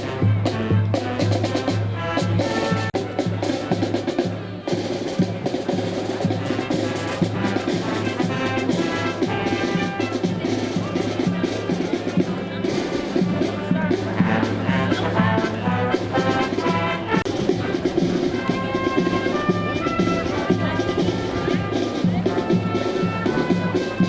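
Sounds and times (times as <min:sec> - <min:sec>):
brass band playing a march: 0:00.0 - 0:24.0
steady drum beat: 0:00.0 - 0:24.0.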